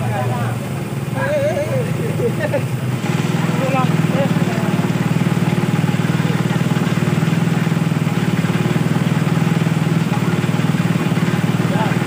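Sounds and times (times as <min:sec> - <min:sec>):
engine-driven water pump running: 0:00.0 - 0:12.0.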